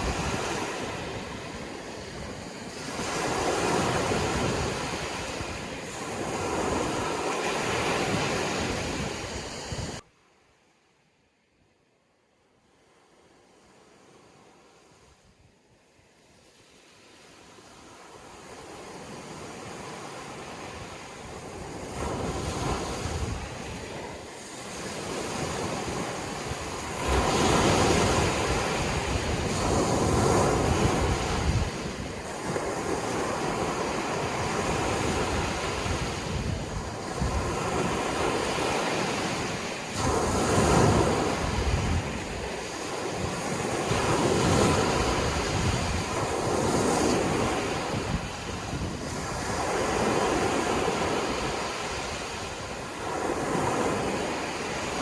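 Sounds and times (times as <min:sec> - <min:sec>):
sea waves breaking on shore: 0:00.0 - 0:10.0, 0:12.6 - 0:55.0.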